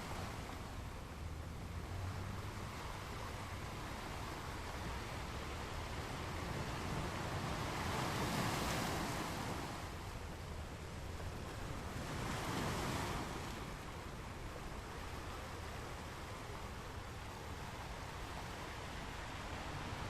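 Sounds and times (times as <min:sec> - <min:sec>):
ocean waves on a beach: 0:00.0 - 0:20.0.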